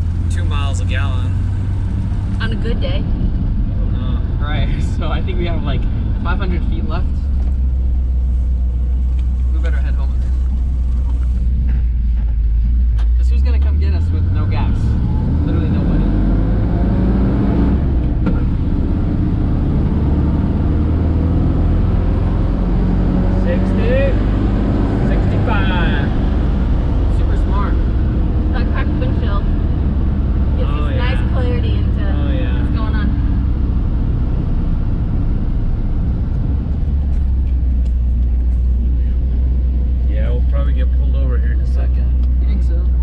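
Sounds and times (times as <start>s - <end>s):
pickup engine and road rumble: 0.0s - 43.0s.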